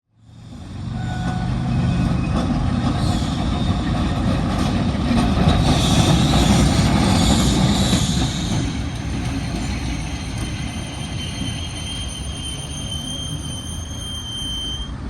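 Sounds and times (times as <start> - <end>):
tram wheels rumbling on rails: 0.2 - 15.0
high wheel squeal: 0.9 - 4.0, 5.6 - 15.0.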